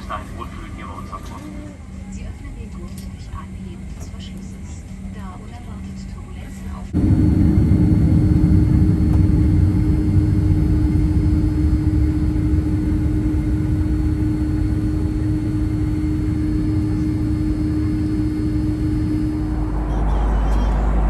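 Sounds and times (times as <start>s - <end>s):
held hum: 0.0s - 21.0s
jet engine roar in cabin: 0.0s - 21.0s.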